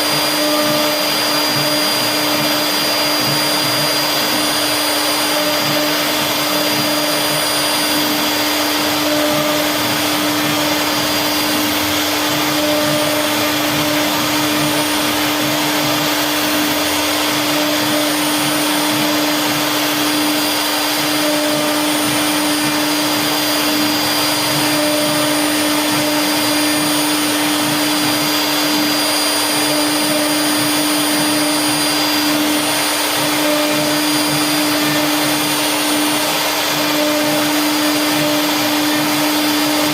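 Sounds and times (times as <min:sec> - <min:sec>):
router spindle carving wood: 0:00.0 - 0:39.9.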